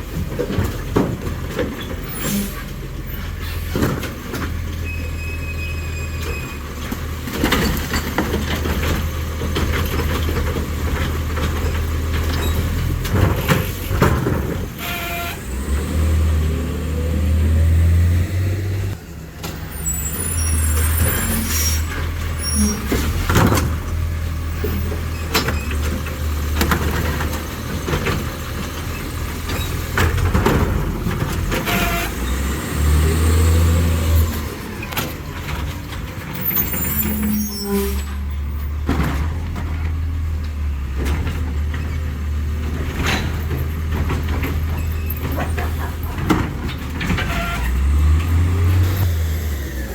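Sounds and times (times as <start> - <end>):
diesel engine revving: 5.8 - 49.9.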